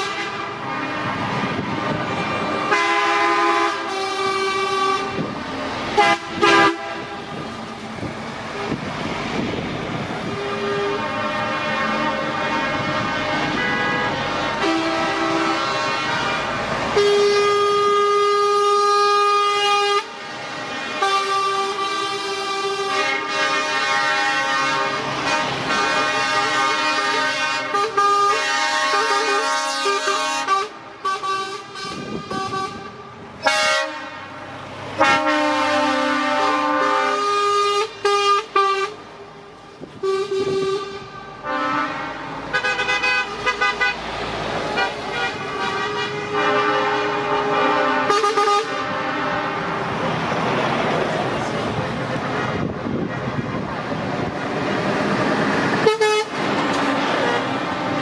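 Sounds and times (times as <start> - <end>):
truck air horns blowing: 0.0 - 9.5, 10.1 - 39.1, 39.8 - 50.1, 55.7 - 58.0.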